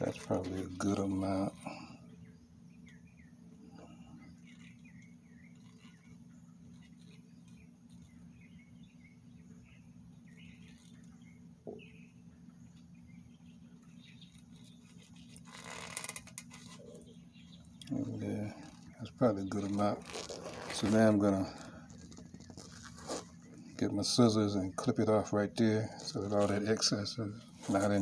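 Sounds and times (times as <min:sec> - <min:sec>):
faint bird chirps: 0:00.0 - 0:15.8, 0:16.5 - 0:28.0
steady low hum: 0:00.0 - 0:28.0.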